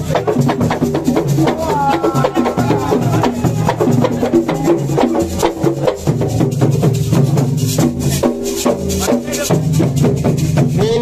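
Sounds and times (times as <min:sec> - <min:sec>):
hand drums playing: 0:00.0 - 0:11.0.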